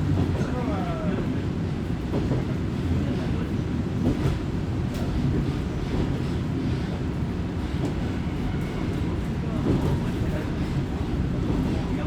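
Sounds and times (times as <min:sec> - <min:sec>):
railcar engine and wheels rumbling: 0:00.0 - 0:12.0.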